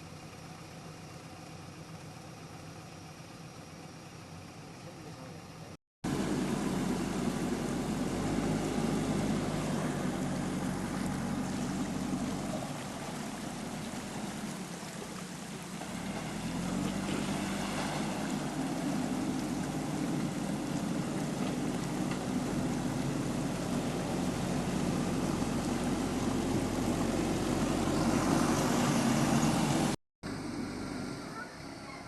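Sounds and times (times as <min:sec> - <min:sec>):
diesel engine revving: 0:06.0 - 0:32.0.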